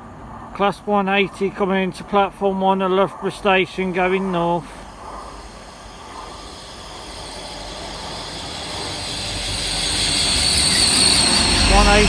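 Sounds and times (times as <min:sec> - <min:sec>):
train engine and rail noise: 0:00.0 - 0:12.0
high hiss: 0:00.6 - 0:12.0.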